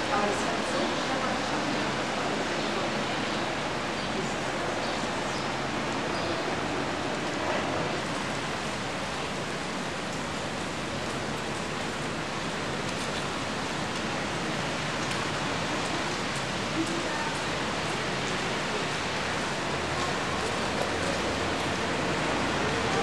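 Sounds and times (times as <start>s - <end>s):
rain on wet pavement: 0.0s - 23.0s.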